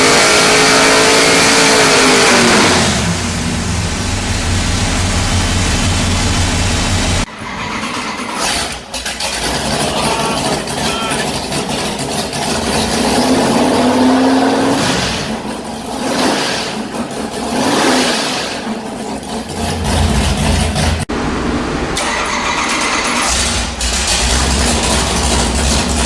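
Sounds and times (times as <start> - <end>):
engine revving and idling: 0.0 - 26.0.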